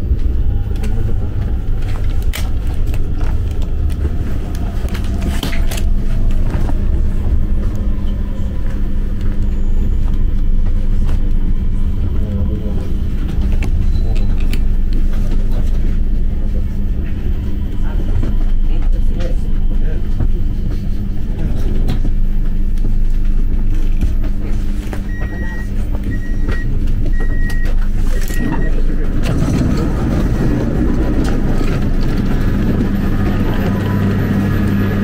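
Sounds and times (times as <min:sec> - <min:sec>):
steady hum: 0:00.0 - 0:35.0
train low rumble: 0:00.0 - 0:35.0.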